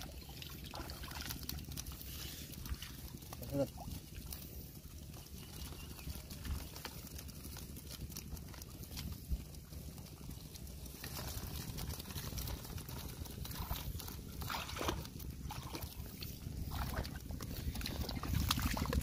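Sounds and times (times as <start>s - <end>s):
low rumble: 0.0s - 19.0s
wet rustling of fish in net: 0.0s - 19.0s.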